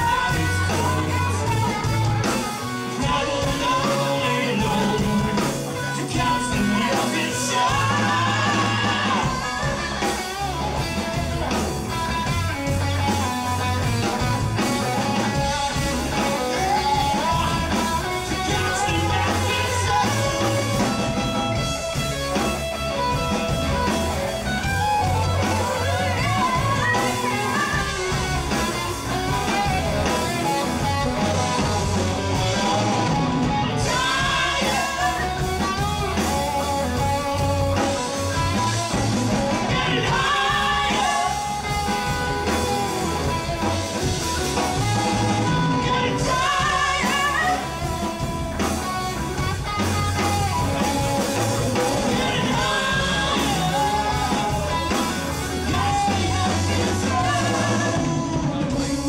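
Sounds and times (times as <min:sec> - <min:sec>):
man singing: 0:00.0 - 0:11.2, 0:12.1 - 0:59.0
electric guitar: 0:00.0 - 0:59.0
low bass: 0:00.0 - 0:59.0.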